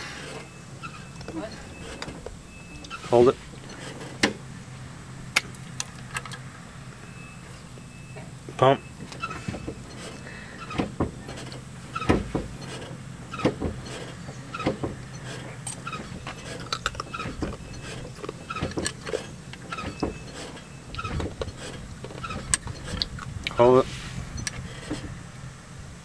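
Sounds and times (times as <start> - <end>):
brake pedal clicks and knocks: 0.0 - 25.3
short squeaks: 0.0 - 25.3
steady low hum: 0.0 - 26.0.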